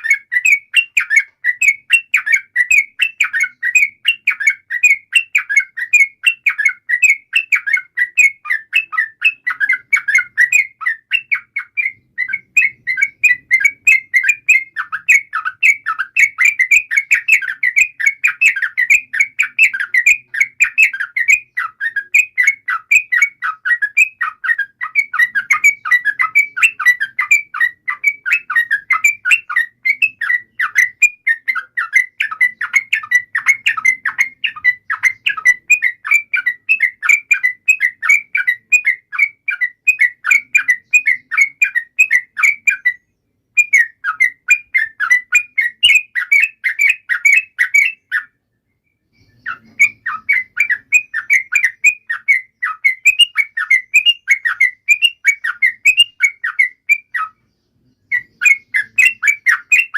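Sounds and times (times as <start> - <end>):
bird singing bubbly whistles: 0.0 - 43.0, 43.6 - 57.4, 58.0 - 59.9.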